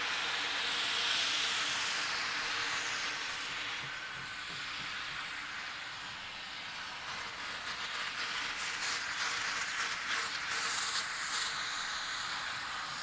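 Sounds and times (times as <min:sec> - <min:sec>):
steam locomotive exhaust puffing: 0:00.0 - 0:13.0.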